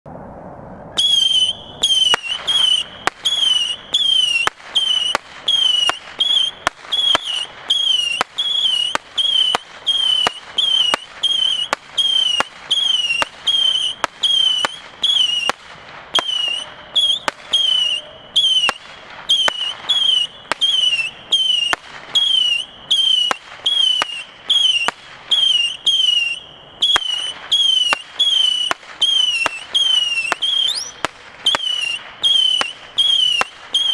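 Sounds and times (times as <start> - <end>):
firework whistles: 0.4 - 33.9
firework pops: 1.1 - 33.9.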